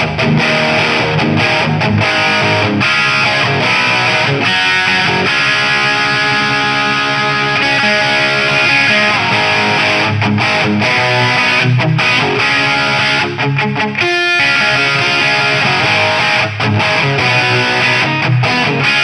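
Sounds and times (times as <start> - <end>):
distorted electric guitar riffs: 0.0 - 19.0.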